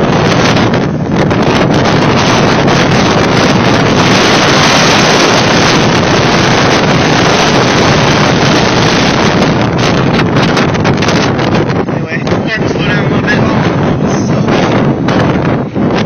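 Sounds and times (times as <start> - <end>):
wind blasting microphone: 0.0 - 16.0.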